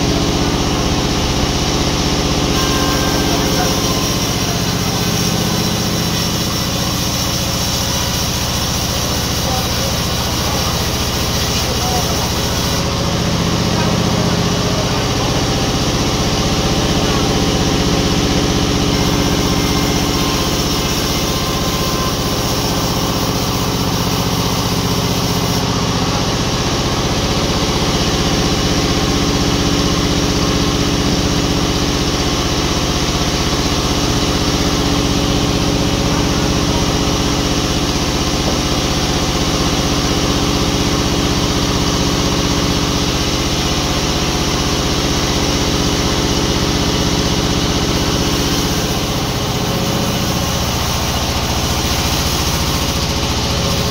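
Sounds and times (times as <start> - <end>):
sawmill machinery motor hum: 0.0 - 53.9.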